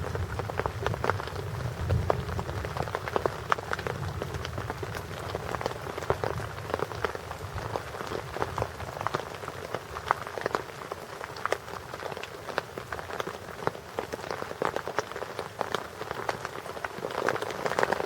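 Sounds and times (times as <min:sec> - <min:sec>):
raindrops tapping close by: 0:00.0 - 0:18.0.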